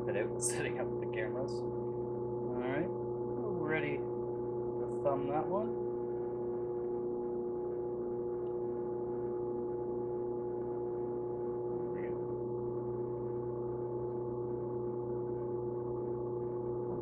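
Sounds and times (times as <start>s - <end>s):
pottery wheel motor humming: 0.0s - 17.0s.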